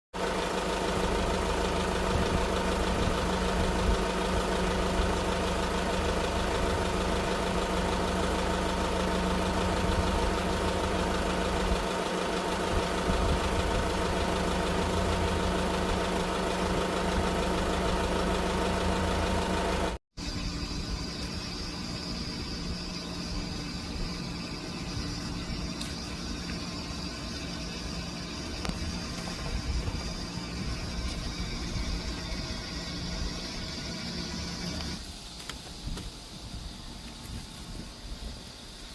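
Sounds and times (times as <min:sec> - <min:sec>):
engine idling: 0:00.2 - 0:38.9.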